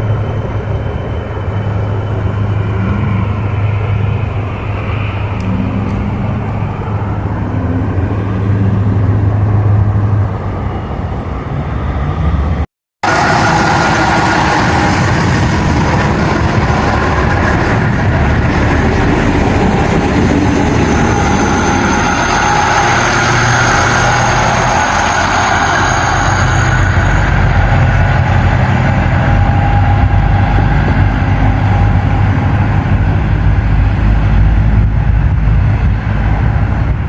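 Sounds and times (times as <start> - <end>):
train engine hum: 0.0 - 37.0
train rolling rumble: 0.0 - 37.0
whining tones of passing train: 0.0 - 37.0.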